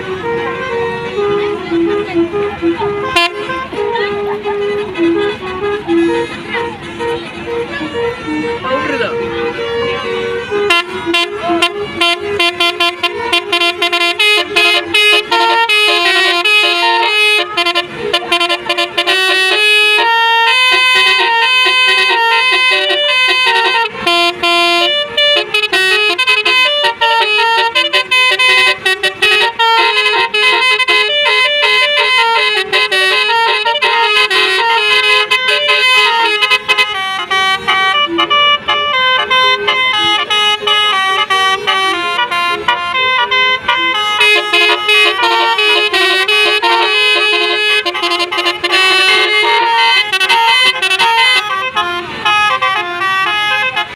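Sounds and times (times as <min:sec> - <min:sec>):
bus musical horn: 0:00.0 - 0:53.9.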